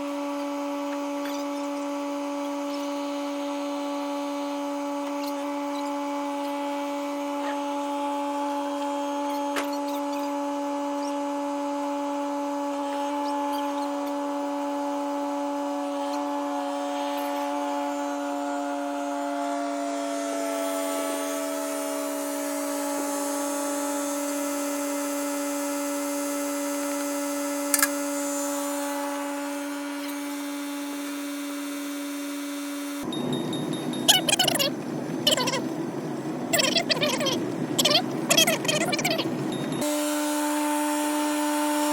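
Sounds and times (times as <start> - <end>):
motor humming: 0.0 - 41.9.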